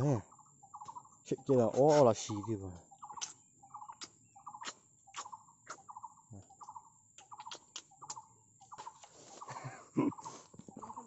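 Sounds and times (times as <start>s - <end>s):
baby bird chirping: 1.8s - 11.0s.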